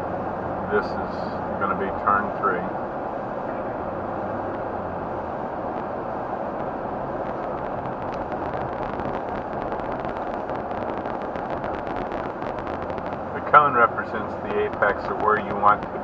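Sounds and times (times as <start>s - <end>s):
road and tyre noise: 0.0s - 16.0s.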